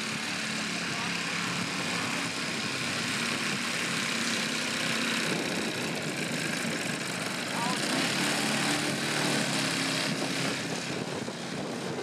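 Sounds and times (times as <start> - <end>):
model aircraft engine running: 0.0 - 12.0.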